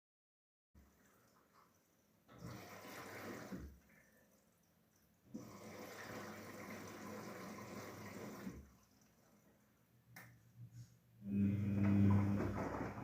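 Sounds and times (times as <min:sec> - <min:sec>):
washing machine filling with water: 0:00.8 - 0:10.1, 0:11.2 - 0:13.0.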